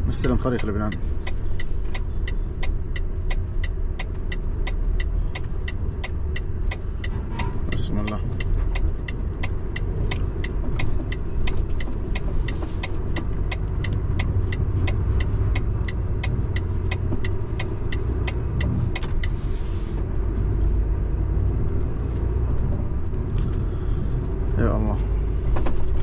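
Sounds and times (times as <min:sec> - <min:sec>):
turn indicator ticking: 0:00.0 - 0:25.3
truck engine rumbling: 0:00.0 - 0:26.0.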